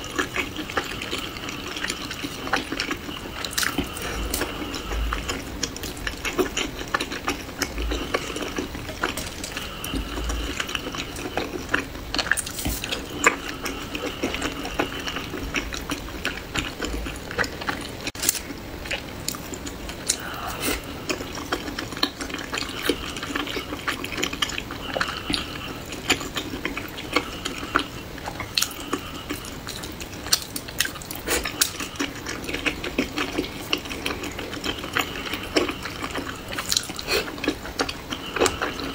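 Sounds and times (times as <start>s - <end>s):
wet chewing and slurping: 0.0s - 38.9s.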